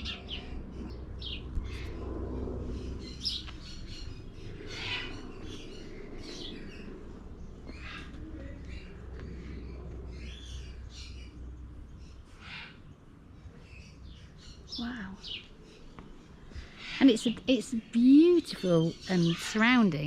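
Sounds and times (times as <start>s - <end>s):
birds chirping: 0.0s - 20.0s
low steady background rumble: 0.0s - 20.0s.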